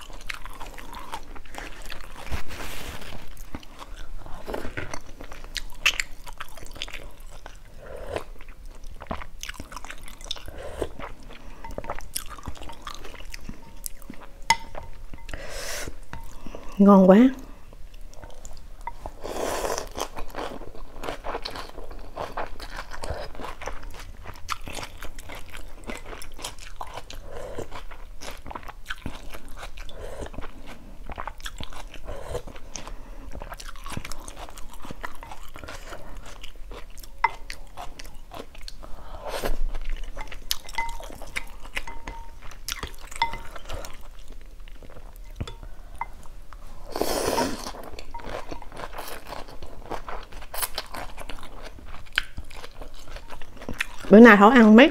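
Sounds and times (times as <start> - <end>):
chewing and crunching: 0.0 - 15.4, 17.8 - 54.2.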